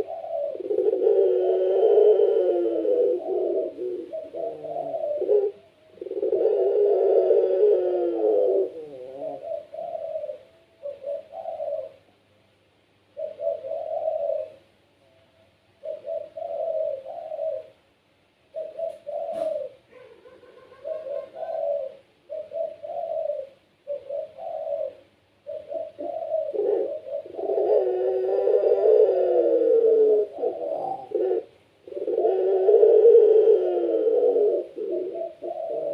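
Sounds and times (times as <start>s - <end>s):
dove cooing: 0.0s - 12.2s, 13.1s - 35.9s.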